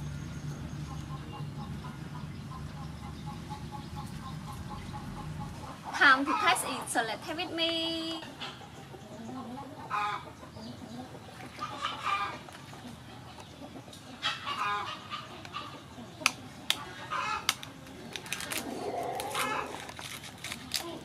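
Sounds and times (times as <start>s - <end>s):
chickens clucking: 0.8s - 20.0s.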